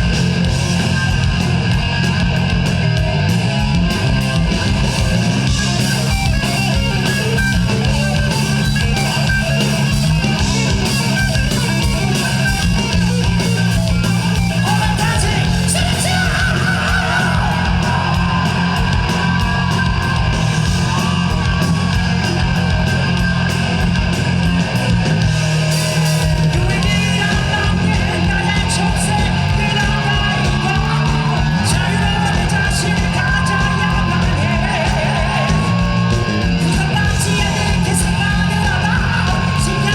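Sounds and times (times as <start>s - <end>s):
bass guitar: 0.0s - 39.9s
distorted electric guitar: 0.0s - 39.9s
steady drum beat: 0.0s - 39.9s.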